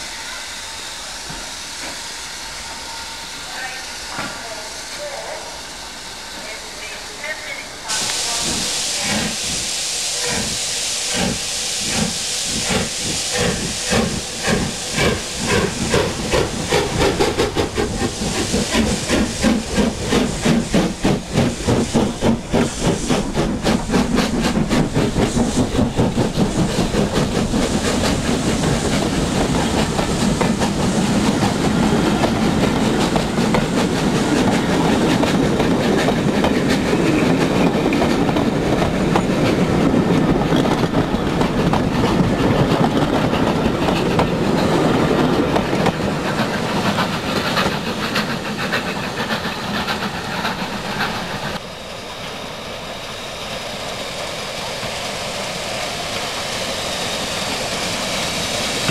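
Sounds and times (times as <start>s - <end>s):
steam hissing: 0.0s - 58.9s
steam locomotive exhaust beats: 0.0s - 58.9s.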